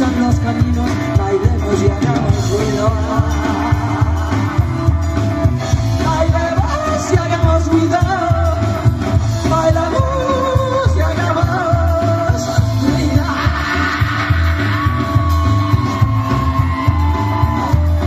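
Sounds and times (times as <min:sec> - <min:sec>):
person singing: 0:00.0 - 0:18.0
pulsing bass: 0:00.0 - 0:18.0
rock band playing live: 0:00.0 - 0:18.0.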